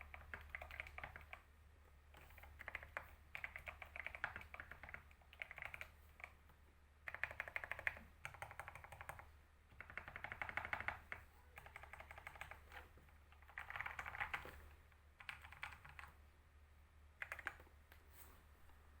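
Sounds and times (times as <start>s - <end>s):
fast typing on keyboard: 0.0s - 1.5s, 2.1s - 6.4s, 7.0s - 16.2s, 17.2s - 17.7s
faint low hum: 0.0s - 19.0s.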